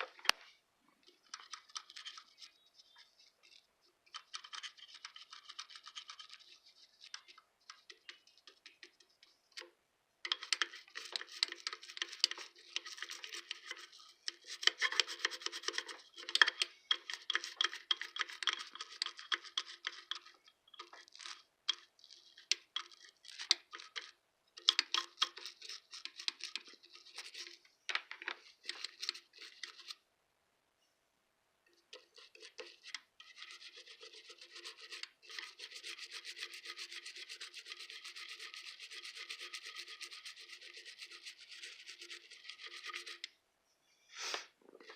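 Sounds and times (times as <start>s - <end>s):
toothbrush bristles scratching: 1.2s - 9.6s, 10.3s - 27.6s, 28.4s - 30.0s, 31.9s - 43.3s.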